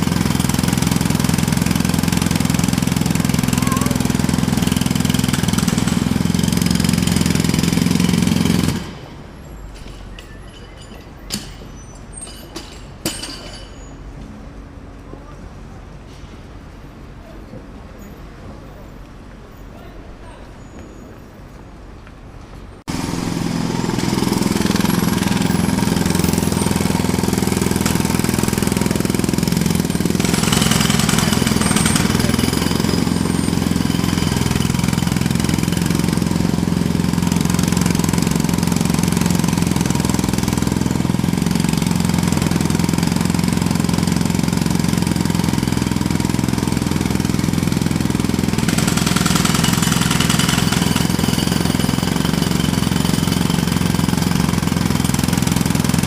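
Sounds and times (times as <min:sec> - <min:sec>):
engine hum: 0:00.0 - 0:13.1, 0:20.5 - 0:56.0
jackhammer hammering: 0:00.0 - 0:13.8, 0:22.9 - 0:56.0.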